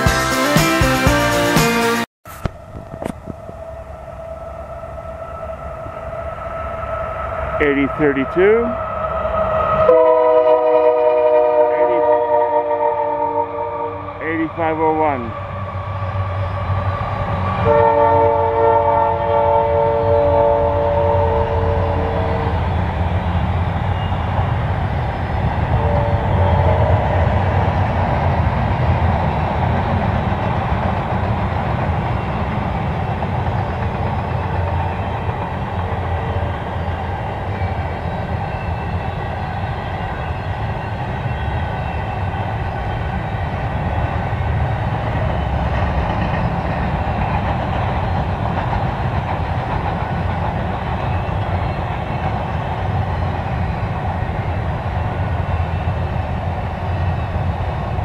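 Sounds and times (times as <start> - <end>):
freight train wheels rumbling on rails: 2.3 - 58.0.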